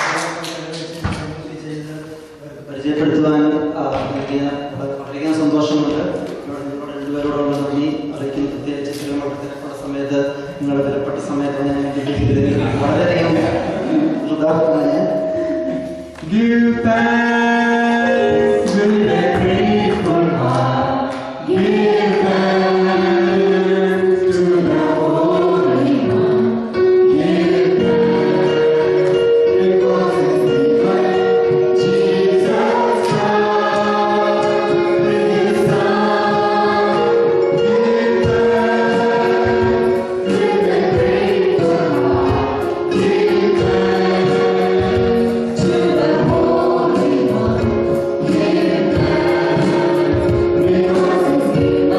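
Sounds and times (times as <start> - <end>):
group singing gospel song: 5.3 - 51.9.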